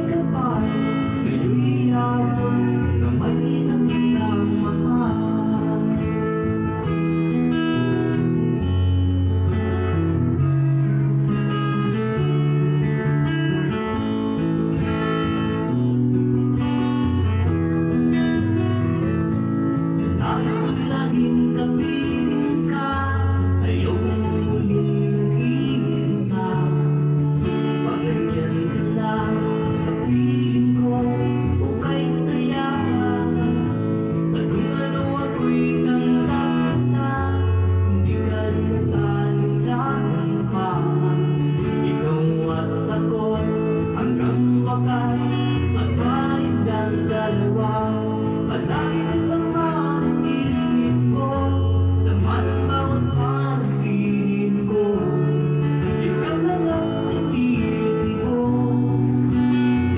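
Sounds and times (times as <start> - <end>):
bass line: 0.0 - 59.9
guitar music with held chords: 0.0 - 59.9
person singing: 0.0 - 59.9.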